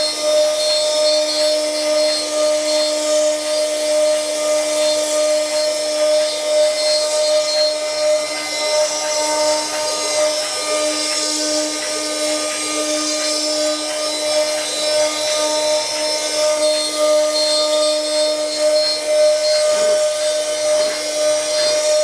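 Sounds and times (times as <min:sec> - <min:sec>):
wood engraving machine whining: 0:00.0 - 0:22.0.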